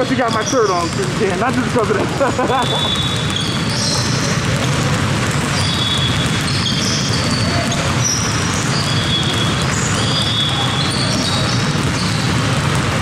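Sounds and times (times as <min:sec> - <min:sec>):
basketballs bouncing on hardwood: 0:00.0 - 0:13.0
sneaker squeaks: 0:00.0 - 0:13.0.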